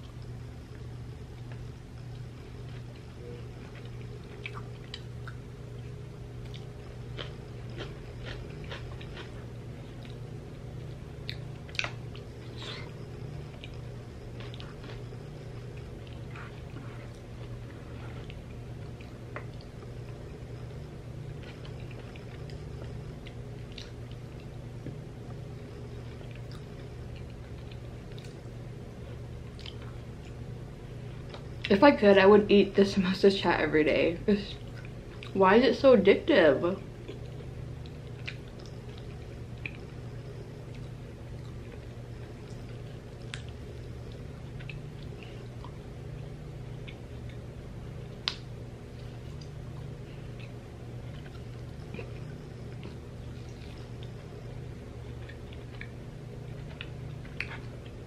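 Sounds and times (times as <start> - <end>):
low steady hum: 0.0 - 58.0
chewing with wet mouth clicks: 1.4 - 12.6, 13.4 - 25.4, 26.0 - 30.4, 34.6 - 35.4, 37.0 - 47.5, 48.1 - 58.0.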